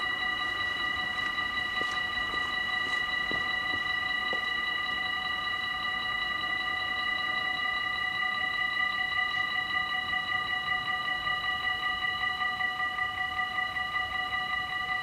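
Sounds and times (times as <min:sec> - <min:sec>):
level crossing warning bells: 0:00.0 - 0:15.0.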